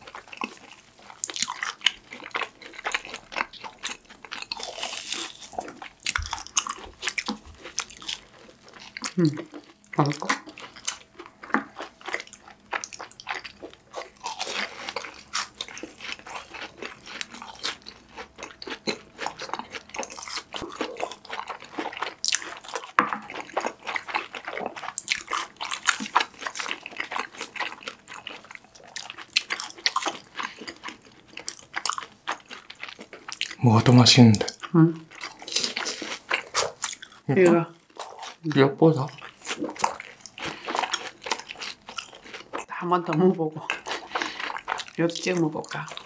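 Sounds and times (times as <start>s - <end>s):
crunching and chewing: 0.0s - 46.0s.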